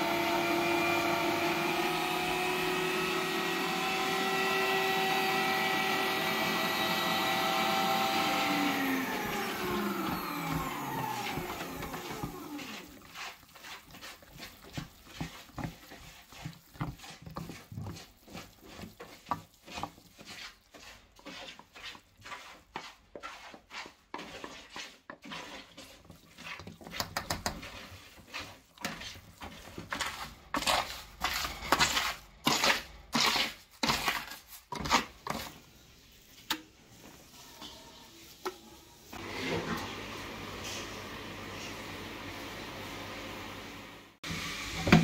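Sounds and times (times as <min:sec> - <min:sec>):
wooden spoon scraping metal bowl: 0:02.3 - 0:39.8.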